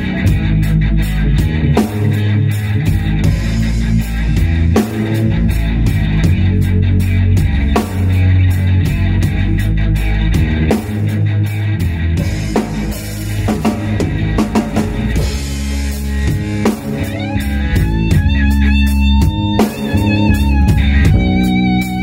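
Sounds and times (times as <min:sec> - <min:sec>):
lead electric guitar line: 0:00.0 - 0:22.0
rock band playing: 0:00.0 - 0:22.0.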